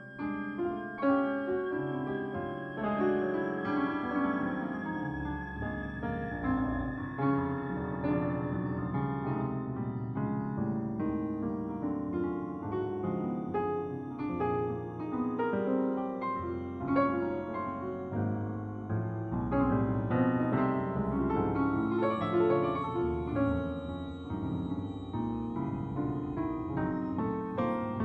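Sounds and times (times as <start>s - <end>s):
piano-like keyboard notes: 0.0s - 28.0s.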